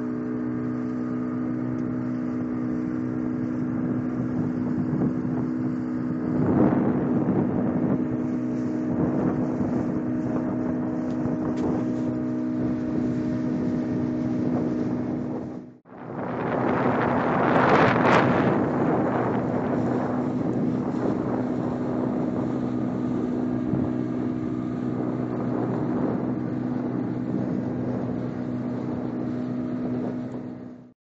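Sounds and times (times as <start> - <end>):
rushing water: 0.0 - 30.8
wind on microphone: 0.0 - 30.9
speedboat engine running: 0.0 - 31.0.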